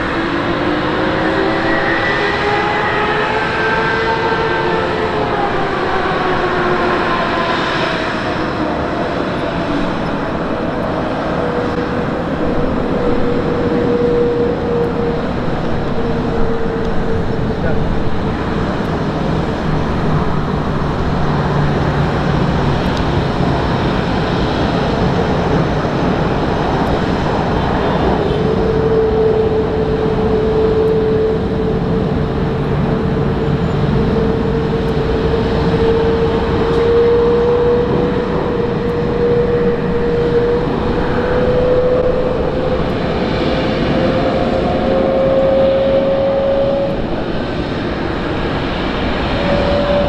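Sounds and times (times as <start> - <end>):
jet engine whine rising in pitch: 0.0 - 50.0
jet engines rumbling: 0.0 - 50.0.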